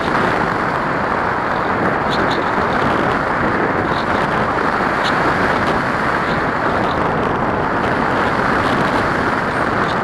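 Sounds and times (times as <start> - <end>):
airflow rushing over microphone: 0.0 - 10.0.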